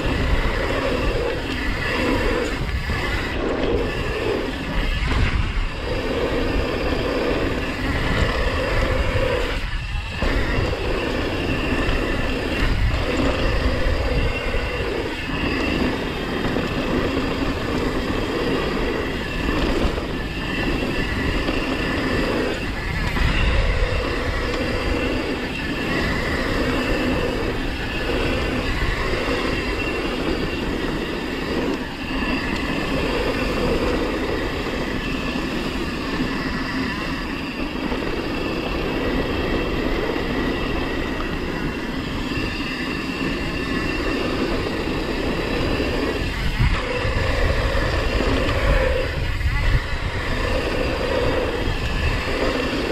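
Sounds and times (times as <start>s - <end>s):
bike tyres rumbling over dirt: 0.0s - 52.9s
wind buffeting microphone: 0.0s - 52.9s.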